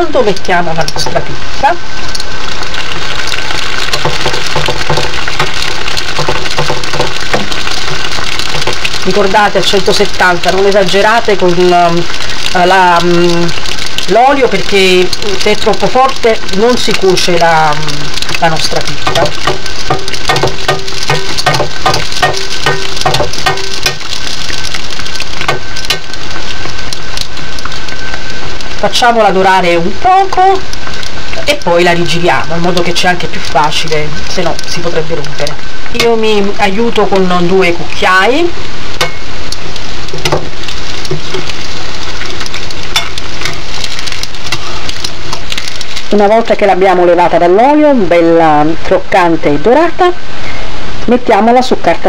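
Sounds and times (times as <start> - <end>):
dough sizzling in hot oil: 0.0 - 52.0.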